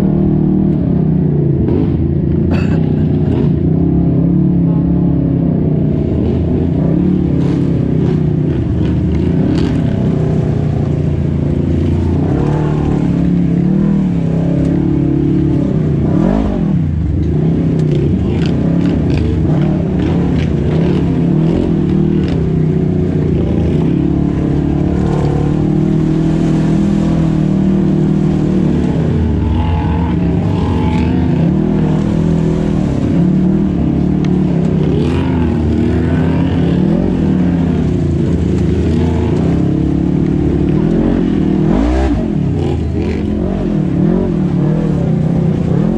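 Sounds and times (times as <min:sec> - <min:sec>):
off-road vehicle engines revving: 0:00.0 - 0:45.9.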